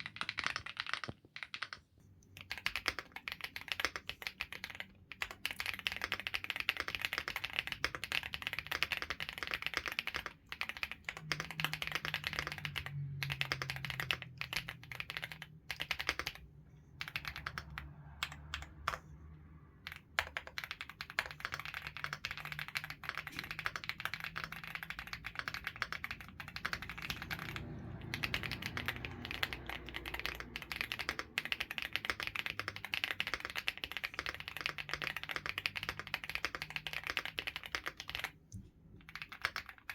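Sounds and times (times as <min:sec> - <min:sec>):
mechanical keyboard typing: 0:00.0 - 0:19.2, 0:19.8 - 0:39.9.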